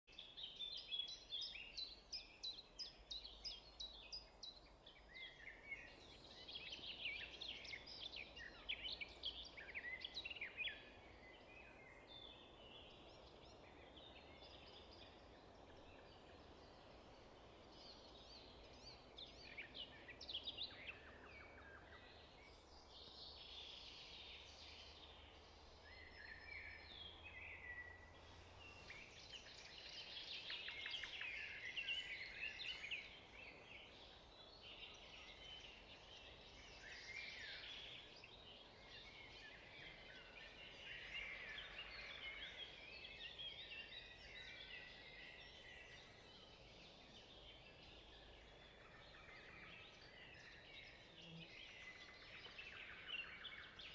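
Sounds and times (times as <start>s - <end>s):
small birds chirping and trilling: 0.1s - 53.9s.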